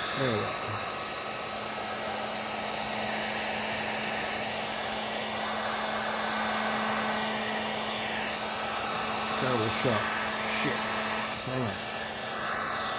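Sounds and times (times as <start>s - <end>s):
fan motor humming: 0.0s - 12.9s
heat gun blowing air: 0.0s - 12.9s.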